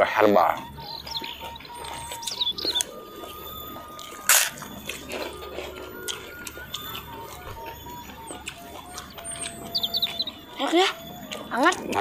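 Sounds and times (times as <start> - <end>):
close chewing and mouth sounds: 0.0 - 12.0.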